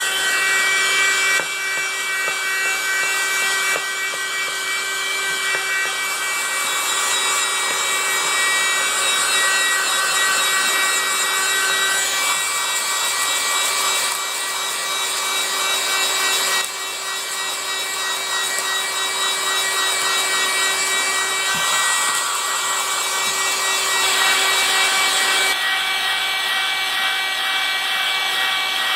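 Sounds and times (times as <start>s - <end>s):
vacuum cleaner motor whining: 0.0s - 28.9s.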